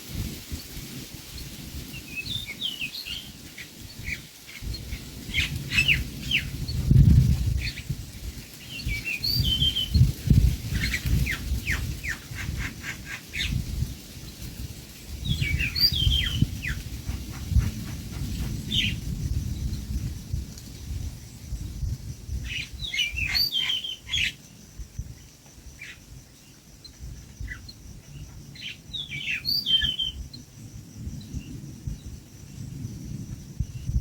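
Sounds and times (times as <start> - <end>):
small birds chirping: 1.4 - 20.0, 21.6 - 30.6.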